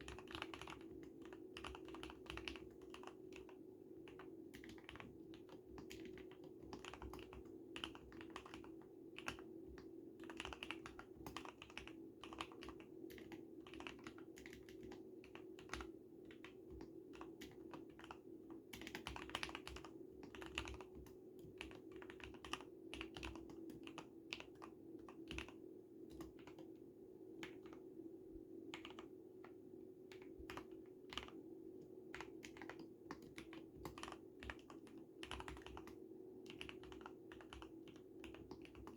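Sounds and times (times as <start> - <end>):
muted mechanical keyboard typing: 0.0 - 26.8, 27.4 - 27.8, 28.7 - 38.9.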